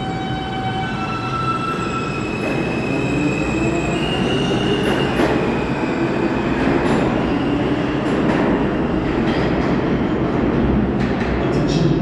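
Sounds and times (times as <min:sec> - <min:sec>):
subway train wheels rumbling: 0:00.0 - 0:12.0.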